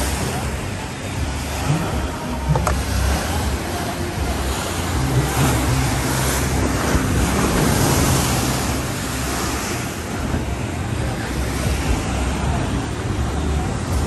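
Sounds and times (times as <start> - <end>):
surf breaking on shore: 0.0 - 14.0.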